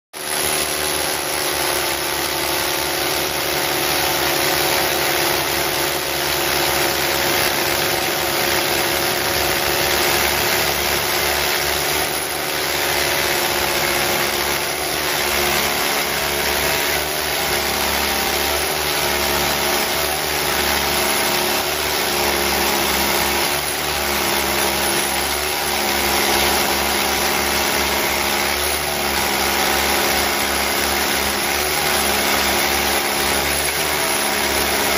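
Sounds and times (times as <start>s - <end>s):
rotary hammers drilling concrete: 0.1s - 34.9s.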